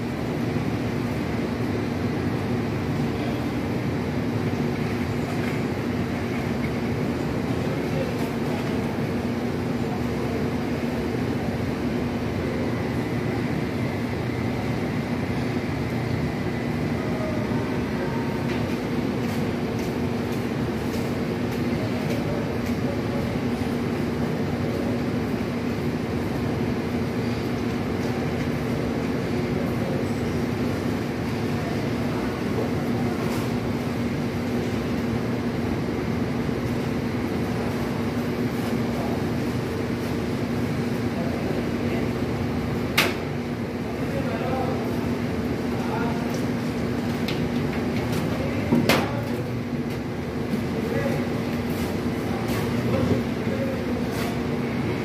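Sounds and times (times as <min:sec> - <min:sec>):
heavy machinery engine drone: 0:00.0 - 0:55.0.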